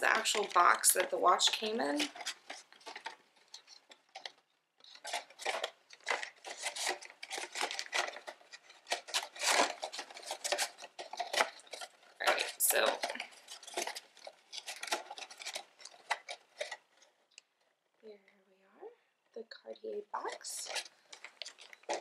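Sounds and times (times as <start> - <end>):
paperboard box rustling and clicking: 0.0 - 17.2, 20.6 - 22.0.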